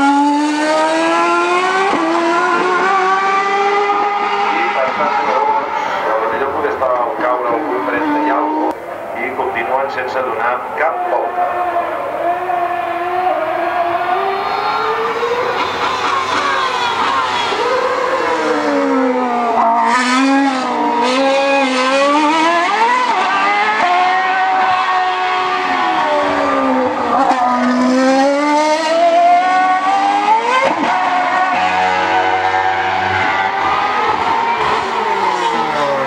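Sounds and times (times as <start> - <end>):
racing car engine revving: 0.0 - 36.0.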